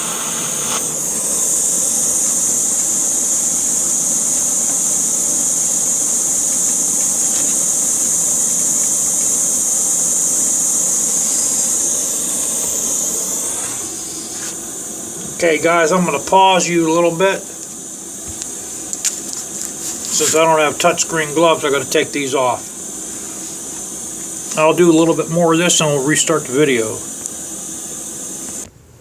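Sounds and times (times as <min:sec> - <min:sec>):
hot air gun hissing: 0:00.0 - 0:28.7
low motor hum: 0:00.0 - 0:28.7.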